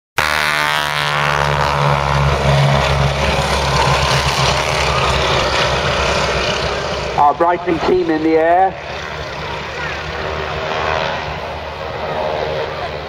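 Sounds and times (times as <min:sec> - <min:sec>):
biplane engine flying past: 0:00.2 - 0:13.0.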